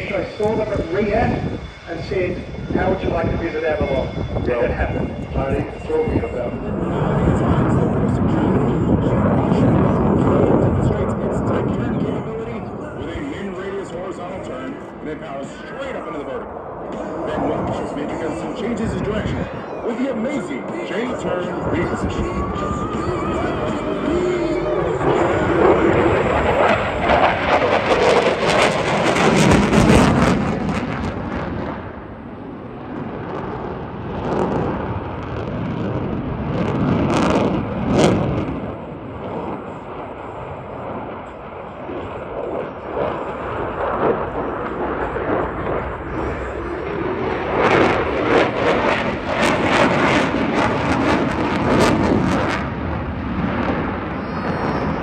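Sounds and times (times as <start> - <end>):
fighter jet roaring: 0.0 - 55.0.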